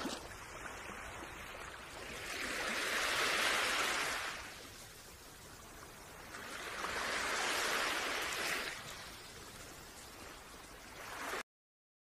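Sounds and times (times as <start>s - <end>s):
water washing against jetty: 0.0s - 11.4s.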